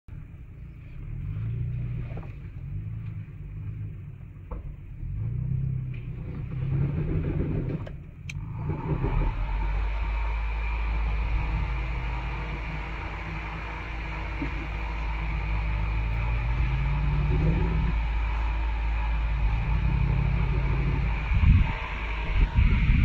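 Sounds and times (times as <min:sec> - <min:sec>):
off-road vehicle engine rumble: 0:00.0 - 0:23.0.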